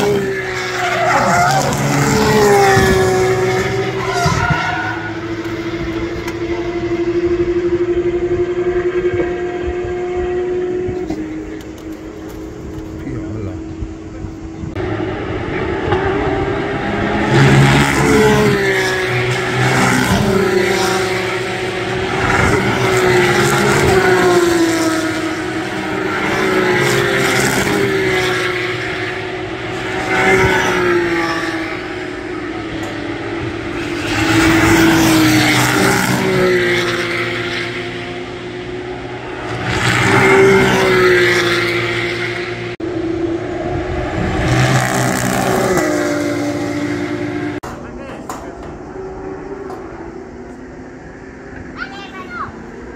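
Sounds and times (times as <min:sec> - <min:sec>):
race car engines revving past: 0:00.0 - 0:52.9.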